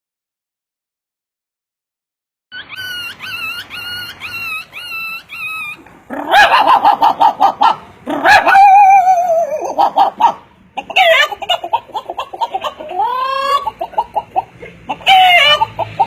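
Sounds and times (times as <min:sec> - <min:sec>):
man imitating dog whimpers: 0:02.5 - 0:16.0.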